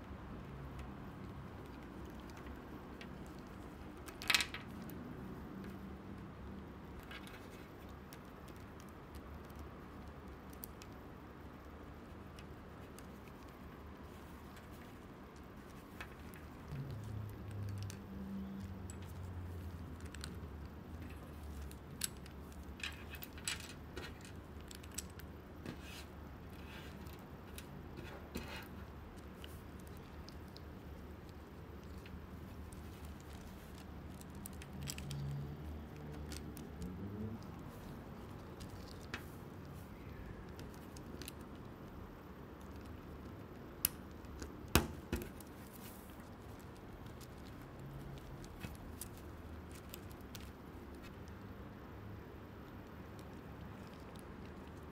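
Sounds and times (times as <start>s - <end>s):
faint low hum: 0.0s - 54.9s.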